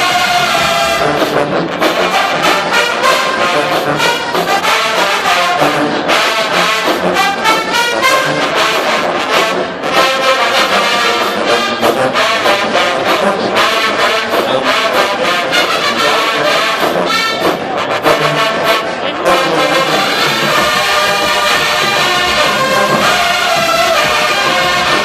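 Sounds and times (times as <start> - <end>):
marching band brass music: 0.0 - 25.0
steady drum beat: 0.0 - 25.0.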